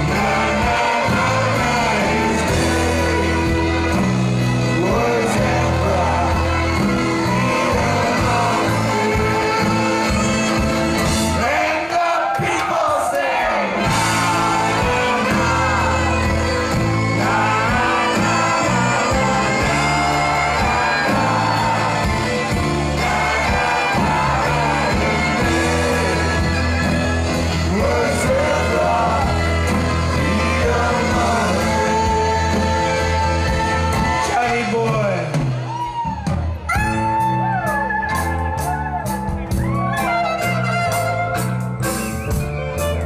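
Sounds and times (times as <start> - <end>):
steady bass line: 0.0 - 11.6, 13.8 - 43.0
person singing: 0.0 - 35.4
live band playing: 0.0 - 43.0.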